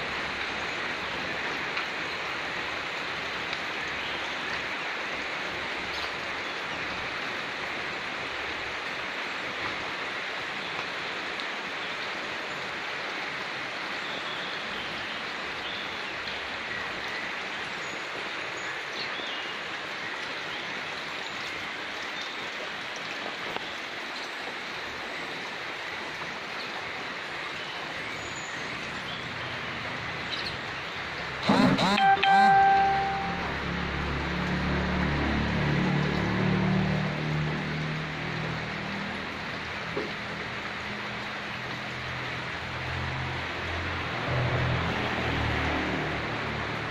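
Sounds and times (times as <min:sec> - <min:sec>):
rain on leafy trees: 0:00.0 - 0:46.9.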